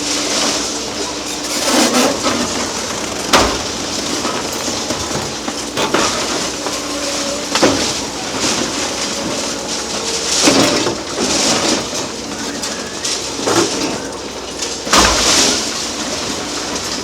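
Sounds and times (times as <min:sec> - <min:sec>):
concrete crunching and breaking: 0:00.0 - 0:17.0
falling debris: 0:00.0 - 0:17.0
short metallic squeals: 0:00.0 - 0:17.0.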